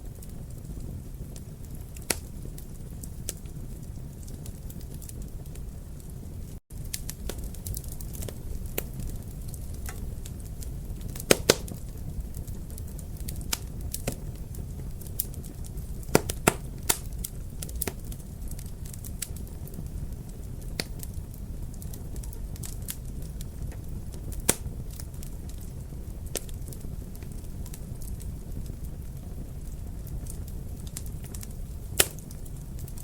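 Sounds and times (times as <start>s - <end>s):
fire crackling and popping: 0.0s - 33.0s
steady low rumble: 0.0s - 33.0s.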